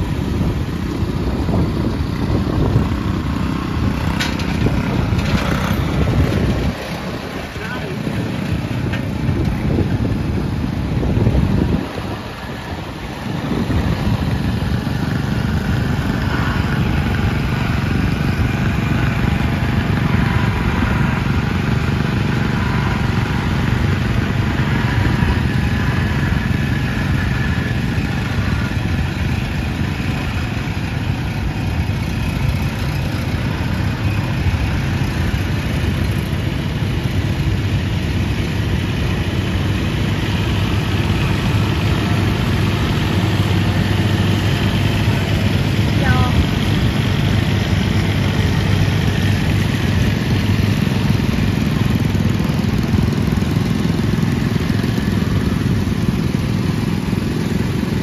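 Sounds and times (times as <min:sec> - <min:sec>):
small tractor engines running: 0:00.0 - 0:58.0.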